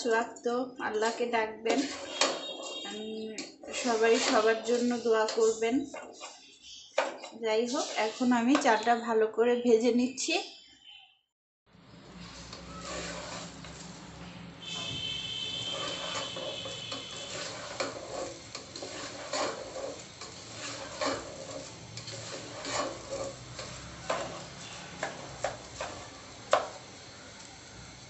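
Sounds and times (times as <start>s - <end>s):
light sizzle: 0.9s - 6.9s, 7.5s - 8.9s, 11.8s - 28.0s
spatula scraping and knocking pot: 1.0s - 8.8s, 12.1s - 26.9s.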